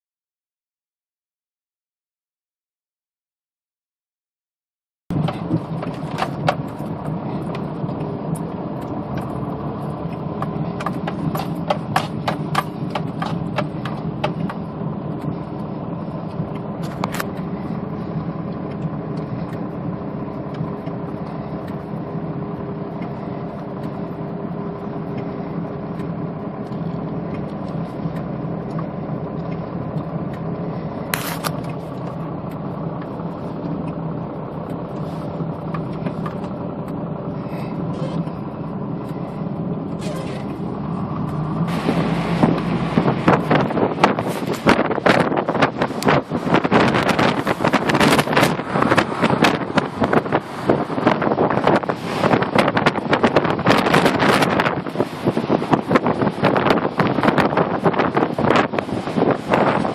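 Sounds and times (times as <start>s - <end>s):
car engine hum: 5.1s - 59.9s
road noise rush: 5.1s - 59.9s.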